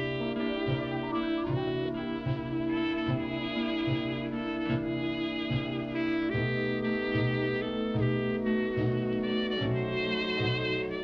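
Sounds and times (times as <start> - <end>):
background music with low pulse: 0.0 - 11.0.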